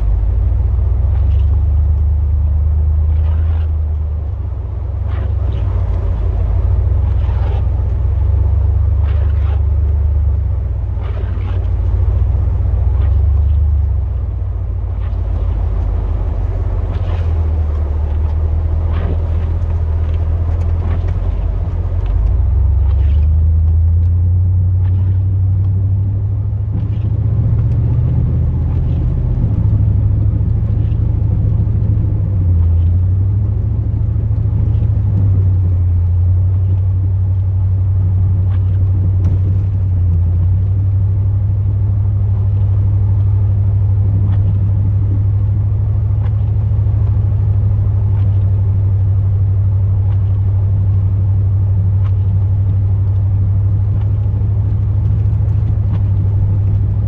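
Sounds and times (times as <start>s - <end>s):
pickup truck engine droning: 0.0s - 57.0s.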